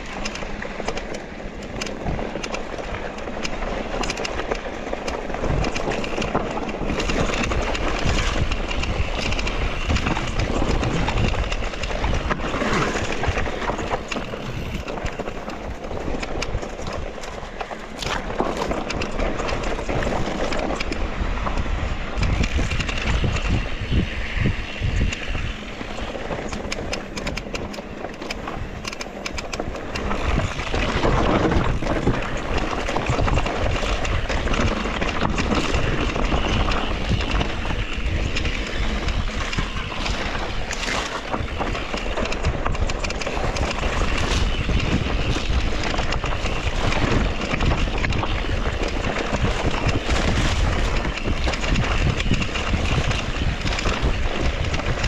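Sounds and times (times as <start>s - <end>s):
bike rattling: 0.0s - 55.0s
bike tyres on dirt: 0.0s - 55.0s
wind on microphone: 0.0s - 55.0s.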